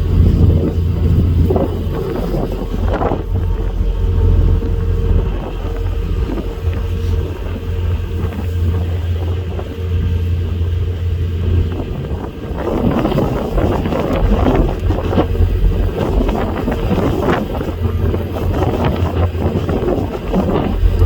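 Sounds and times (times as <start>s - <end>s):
ferry engines droning: 0.0s - 21.0s
thin steady hum: 0.0s - 21.0s.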